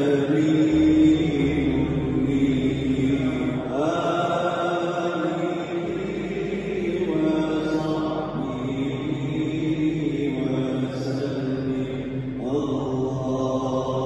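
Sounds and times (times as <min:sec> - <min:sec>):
voice chanting in long notes: 0:00.0 - 0:14.0.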